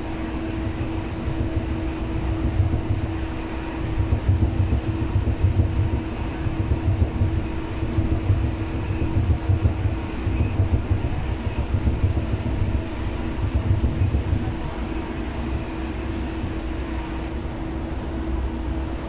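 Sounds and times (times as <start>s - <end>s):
constant hum: 0.0s - 19.0s
train cabin rumble: 0.0s - 19.0s.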